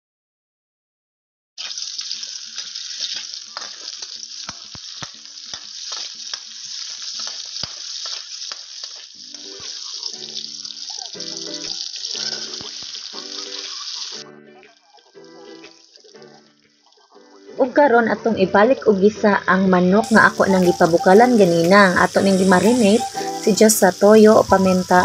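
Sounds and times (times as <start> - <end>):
vegetables sizzling in hot oil: 1.6 - 17.8, 18.4 - 25.0.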